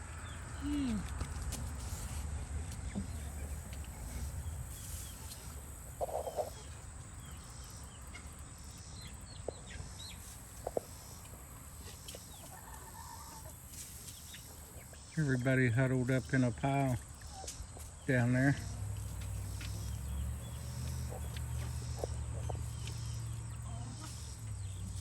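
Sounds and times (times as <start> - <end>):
chickens clucking: 0.0 - 25.0
chick peeps and chirps: 2.8 - 15.2, 16.8 - 25.0.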